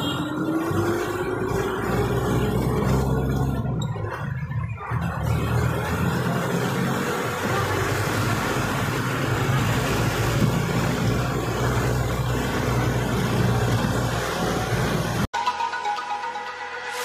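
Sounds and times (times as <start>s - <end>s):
car engine hum: 0.0s - 4.2s, 4.8s - 15.3s
tyre noise on wet road: 0.0s - 15.3s.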